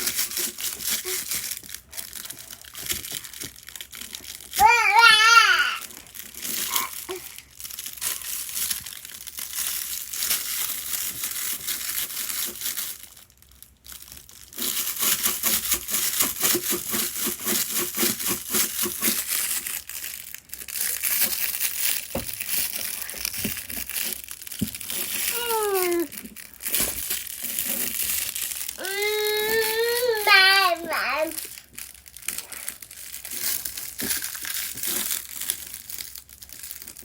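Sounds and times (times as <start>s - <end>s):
crinkling and crunching crackles: 0.0s - 37.0s.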